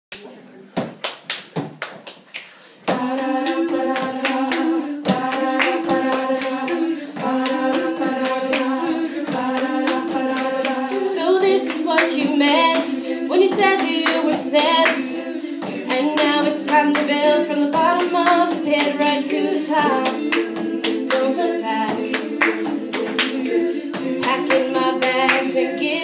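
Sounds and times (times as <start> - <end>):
women's a cappella group singing: 2.8 - 26.0.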